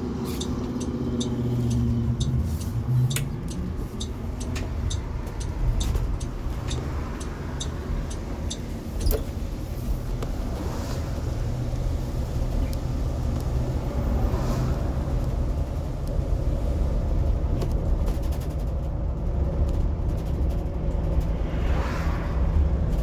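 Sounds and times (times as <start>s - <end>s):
road and tyre rumble: 0.0s - 23.0s
light rattling ticks: 0.2s - 13.8s, 14.4s - 23.0s.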